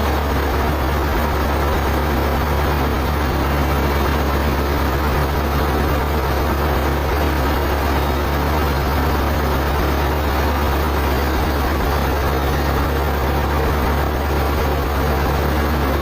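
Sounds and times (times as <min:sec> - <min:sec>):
sawmill machinery humming: 0:00.0 - 0:16.0.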